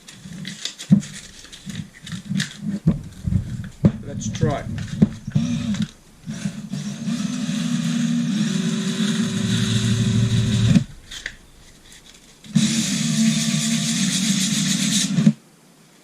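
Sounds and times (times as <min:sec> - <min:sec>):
sandpaper rubbing metal: 0:00.0 - 0:15.3
electric drill spinning: 0:01.1 - 0:15.4.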